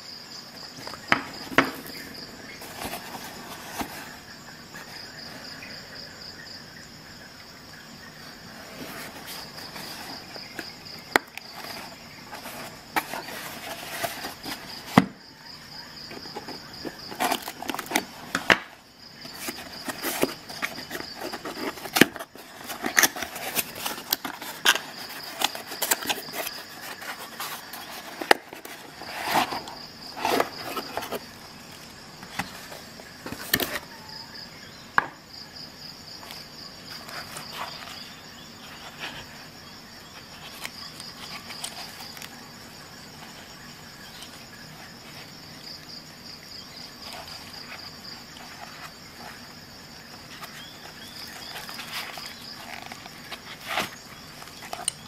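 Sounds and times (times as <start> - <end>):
cardboard box rustling: 0.5 - 5.6, 8.3 - 34.2, 36.0 - 45.9, 46.7 - 55.0.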